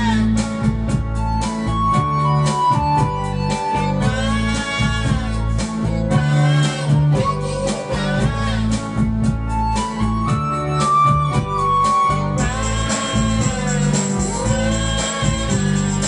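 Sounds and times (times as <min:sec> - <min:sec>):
bass line: 0:00.0 - 0:16.0
guitar playing: 0:00.0 - 0:16.0.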